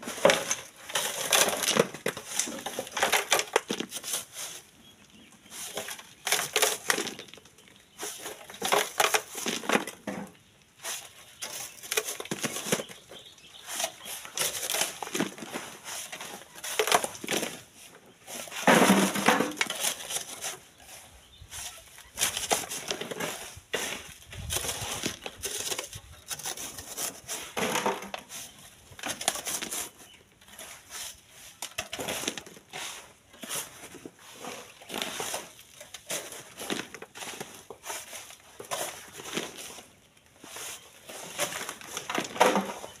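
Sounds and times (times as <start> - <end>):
gravel rattling through sieve: 0.0 - 4.8, 5.4 - 43.0.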